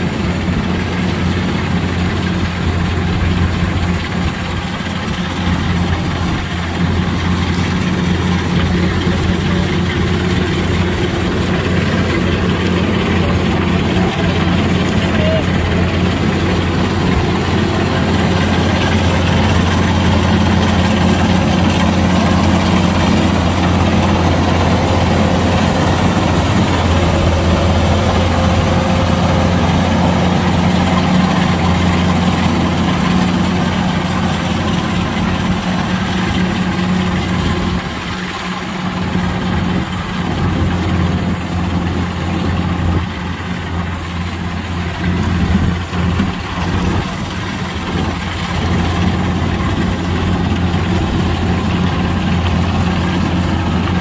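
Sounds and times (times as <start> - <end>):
combine harvester diesel drone: 0.0 - 54.0.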